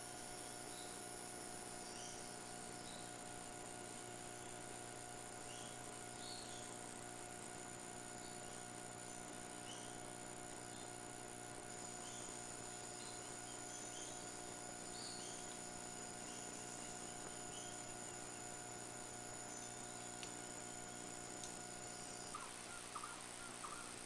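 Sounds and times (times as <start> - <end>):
hum of fixed tones: 0.0 - 24.0.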